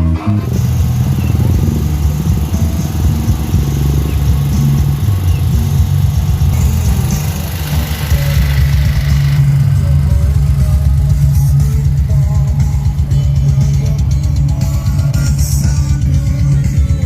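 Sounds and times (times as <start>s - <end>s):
vehicle engine running at low revs: 0.1s - 17.0s.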